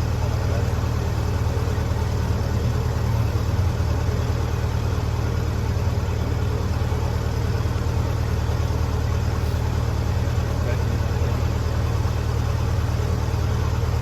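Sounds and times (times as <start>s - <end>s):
gas engine running: 0.0s - 14.0s.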